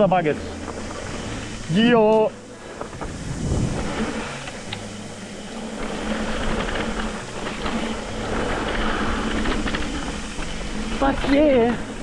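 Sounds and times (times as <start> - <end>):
bike tyres rolling on dirt: 0.0 - 12.0
wind rushing: 0.0 - 12.0.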